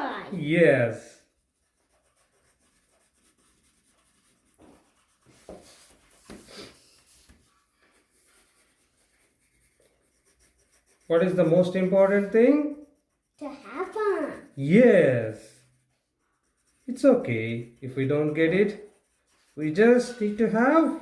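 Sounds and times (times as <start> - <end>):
pencil scratching on paper: 0.0 - 21.0.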